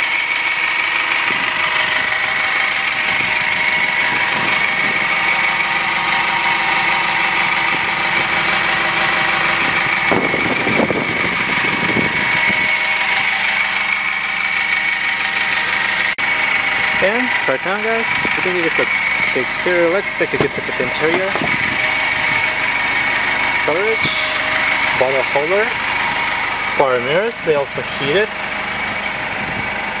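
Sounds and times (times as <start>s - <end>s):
diesel engine idling: 0.0s - 30.0s
high whine: 0.8s - 30.0s.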